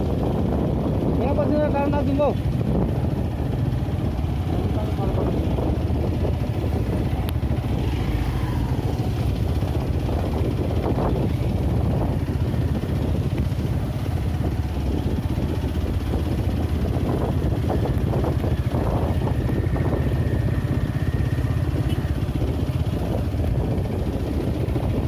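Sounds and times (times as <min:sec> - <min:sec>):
motorcycle engine rumble: 0:00.0 - 0:25.0.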